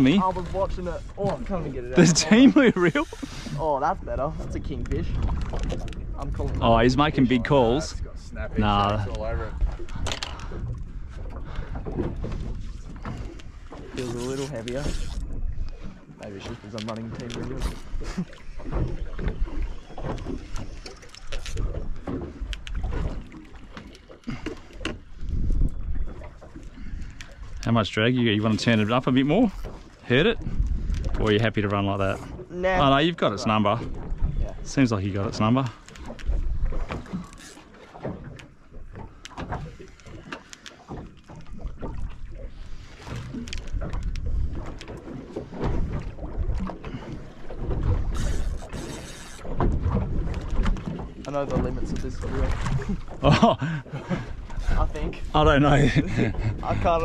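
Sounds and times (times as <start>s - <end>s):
wind and water against hull: 0.0s - 57.0s.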